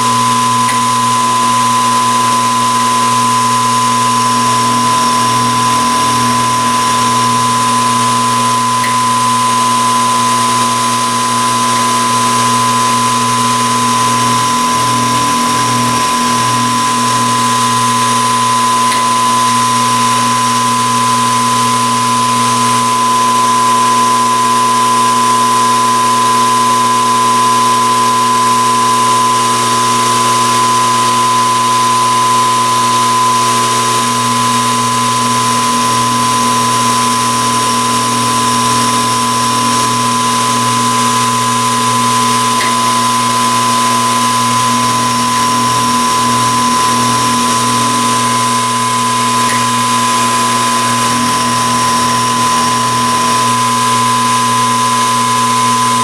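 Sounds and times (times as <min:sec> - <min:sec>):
machine tool whining: 0:00.0 - 0:56.0.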